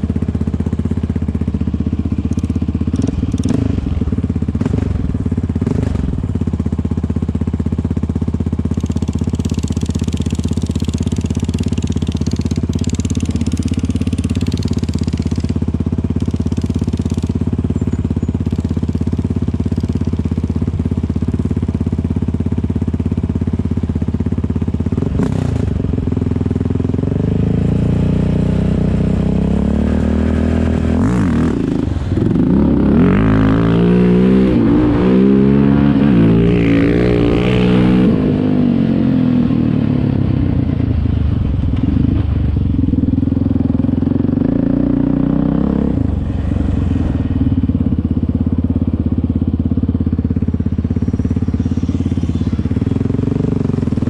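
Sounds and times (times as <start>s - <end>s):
atv engine idling and revving: 0.0s - 54.0s.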